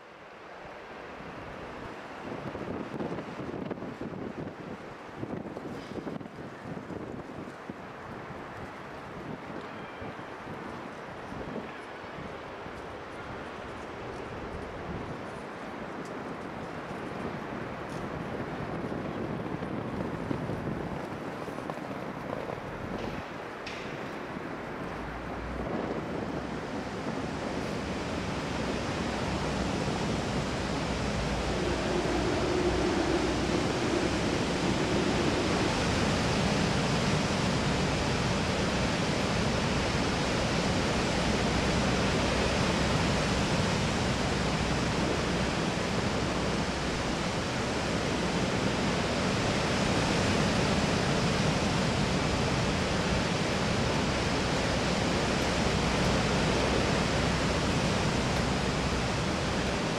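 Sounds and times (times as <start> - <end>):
stormy sea waves breaking: 0.0 - 59.9.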